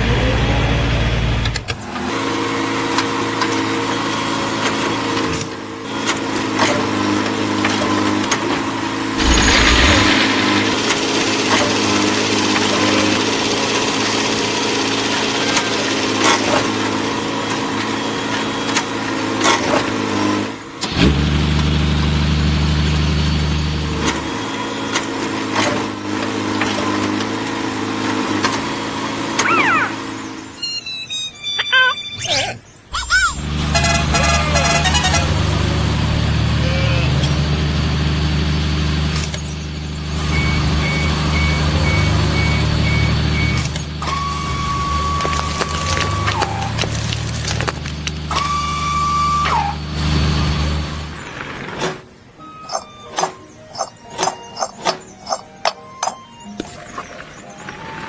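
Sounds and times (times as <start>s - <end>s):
engine running: 0.0s - 30.6s, 33.3s - 58.0s.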